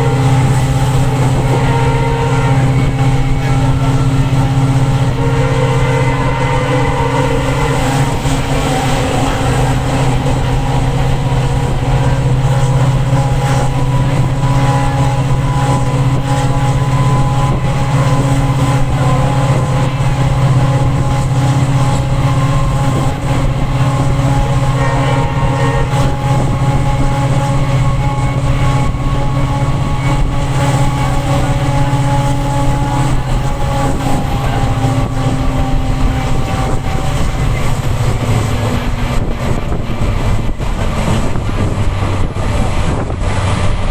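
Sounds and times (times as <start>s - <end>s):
locomotive diesel engine hum: 0.0s - 43.9s.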